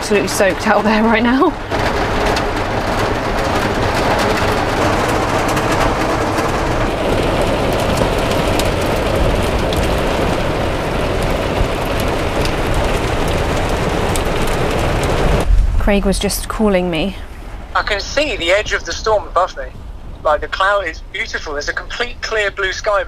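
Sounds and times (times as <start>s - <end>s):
heavy rain on vehicle roof: 0.0s - 15.5s, 17.7s - 23.0s.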